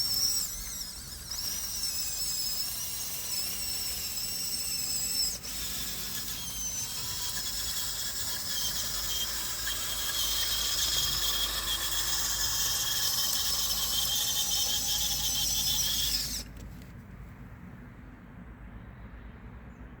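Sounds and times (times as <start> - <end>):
electric motors whining: 0.0 - 16.8.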